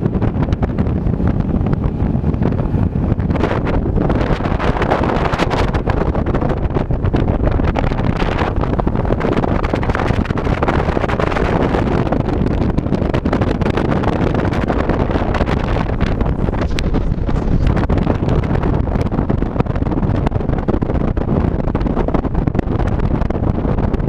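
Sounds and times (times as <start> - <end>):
boat hull on water: 0.0 - 24.0
wind buffeting microphone: 0.0 - 24.0.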